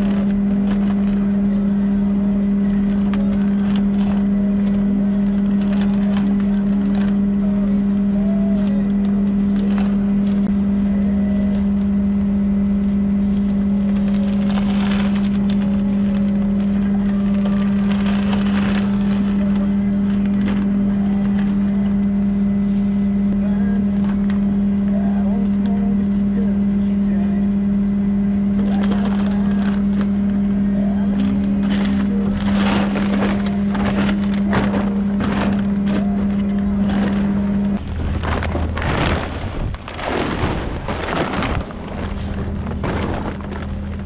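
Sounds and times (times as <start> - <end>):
tractor diesel engine drone: 0.0 - 44.0.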